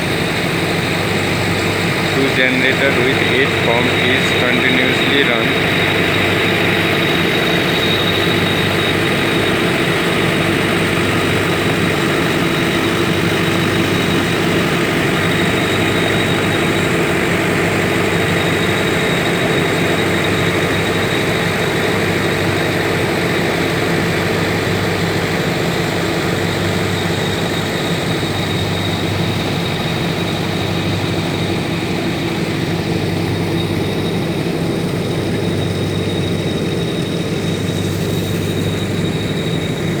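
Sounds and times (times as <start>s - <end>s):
thin high whine: 0.0s - 21.7s, 26.8s - 40.0s
generator engine hum: 0.0s - 40.0s.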